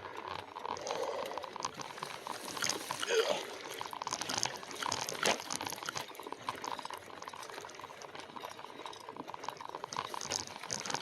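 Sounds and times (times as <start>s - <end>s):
bicycle tyres on dirt trail: 0.0s - 11.0s.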